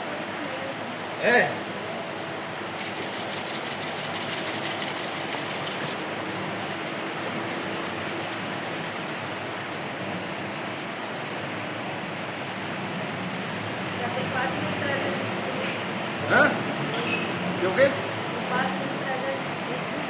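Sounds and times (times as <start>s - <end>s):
wall fan running: 0.0s - 20.0s.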